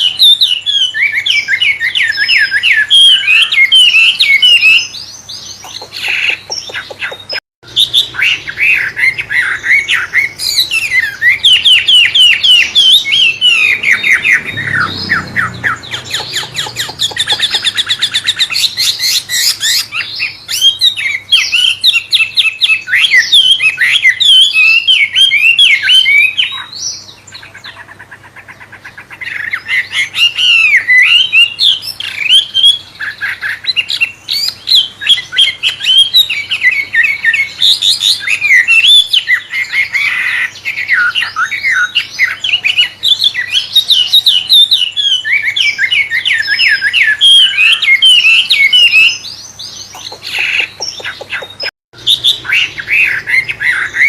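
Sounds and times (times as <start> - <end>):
songbird singing rapid trills: 0.0 - 54.0.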